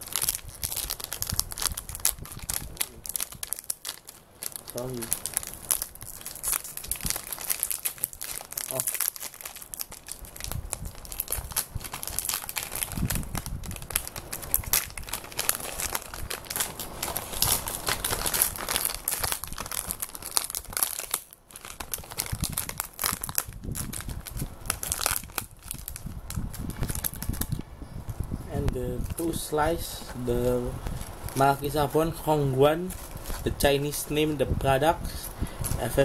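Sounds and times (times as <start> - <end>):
foil packet crinkling and tearing: 0.0 - 27.6, 28.9 - 36.0.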